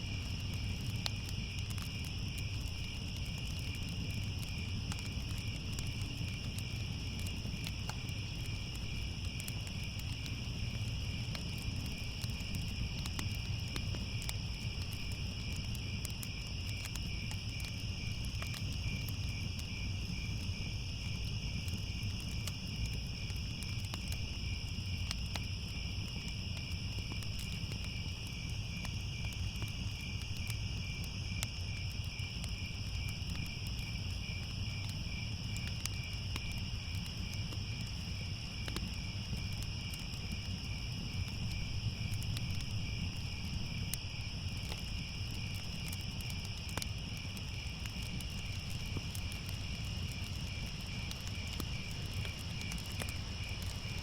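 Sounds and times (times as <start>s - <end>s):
crickets chirping: 0.0s - 54.0s
wood fire crackling: 0.0s - 54.0s.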